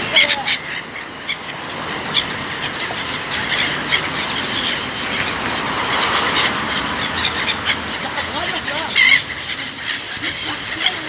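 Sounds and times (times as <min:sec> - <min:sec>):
seagulls crying: 0:00.0 - 0:11.0
steady rushing noise: 0:00.0 - 0:11.0.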